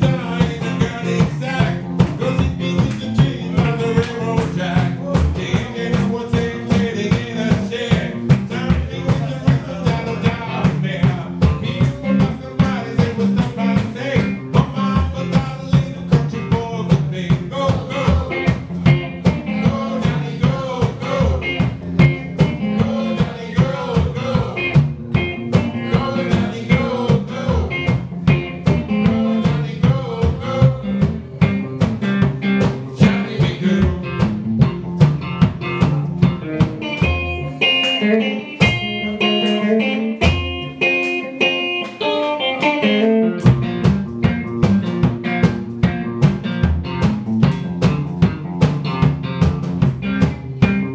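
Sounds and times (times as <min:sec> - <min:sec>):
blues guitar: 0:00.0 - 0:50.9
plucked washtub bass: 0:00.0 - 0:50.9.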